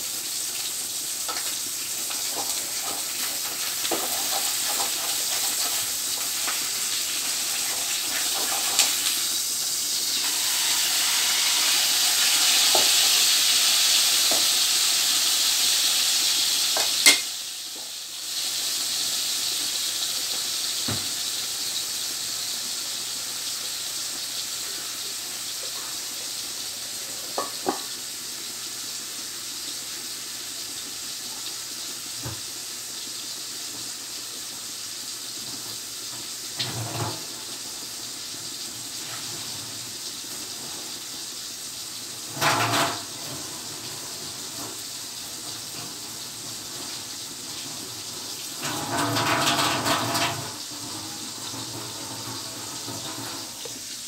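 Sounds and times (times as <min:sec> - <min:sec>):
food sizzling in a wok: 0:00.0 - 0:54.0.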